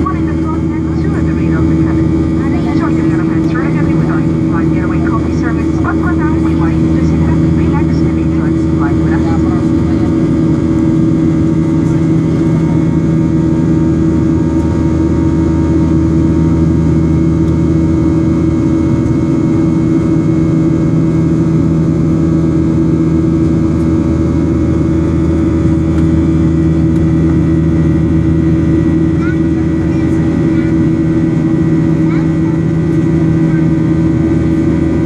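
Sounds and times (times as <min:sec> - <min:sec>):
jet engines droning in cabin: 0:00.0 - 0:35.0.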